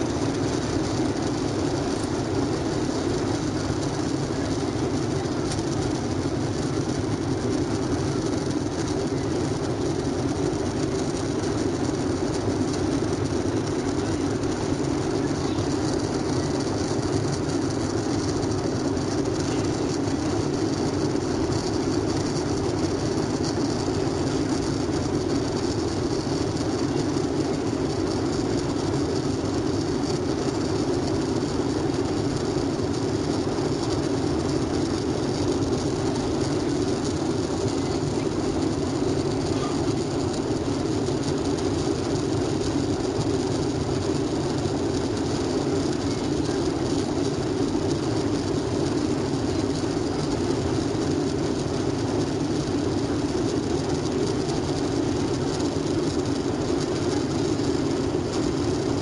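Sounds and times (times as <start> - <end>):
jet engine roar in cabin: 0.0 - 59.0.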